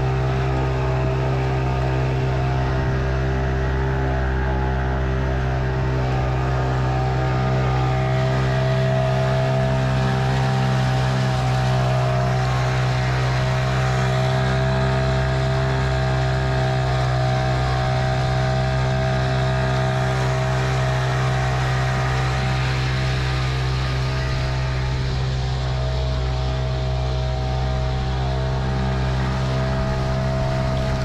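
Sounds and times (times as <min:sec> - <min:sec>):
boat wake churning: 0:00.0 - 0:31.0
outboard motor running: 0:00.0 - 0:31.0.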